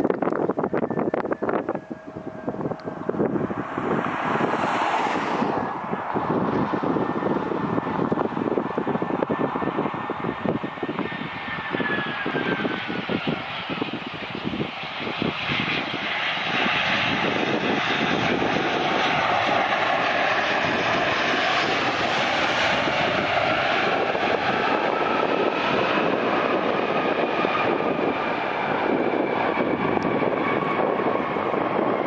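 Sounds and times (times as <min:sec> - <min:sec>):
jet engine roar with whine: 0:00.0 - 0:32.0.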